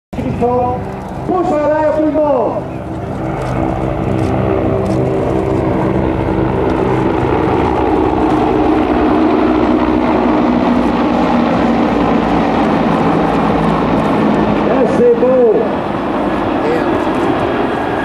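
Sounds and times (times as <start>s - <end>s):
helicopter rotor beat: 0.2s - 18.0s
turbine engine whine: 0.2s - 18.0s.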